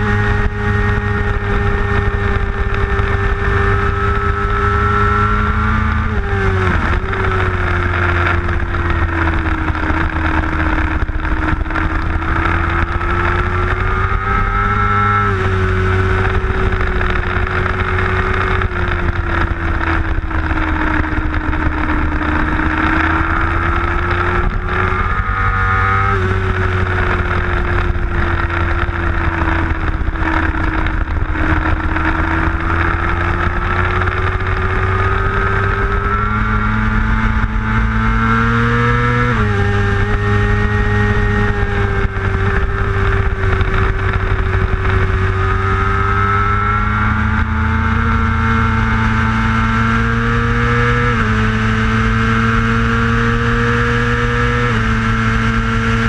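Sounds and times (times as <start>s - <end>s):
motorcycle engine at speed: 0.0s - 56.0s.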